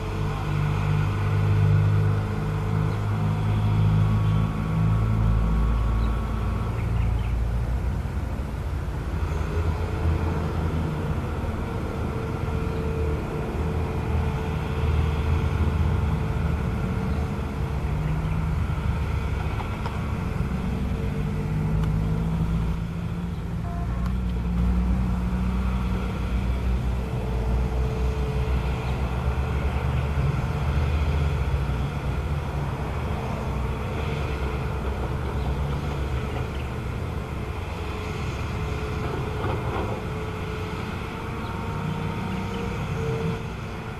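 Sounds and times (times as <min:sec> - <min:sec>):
excavator diesel engine drone: 0:00.0 - 0:43.9.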